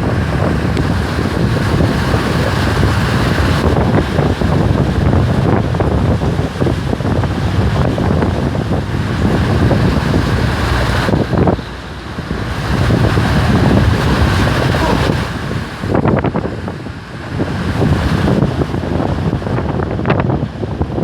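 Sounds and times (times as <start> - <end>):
heavy rain: 0.0 - 21.0
storm wind gusts: 0.0 - 21.0
wind buffeting microphone: 0.0 - 21.0.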